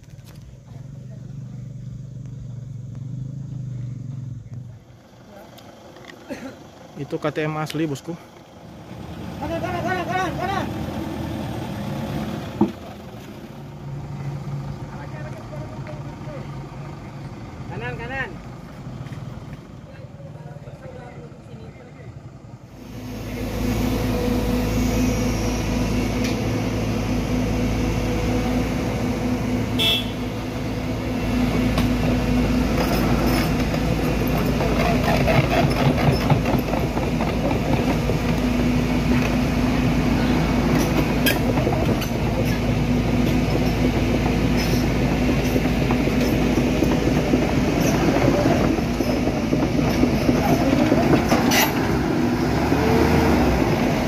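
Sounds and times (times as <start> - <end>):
heavy diesel engines under load: 0.0 - 54.0.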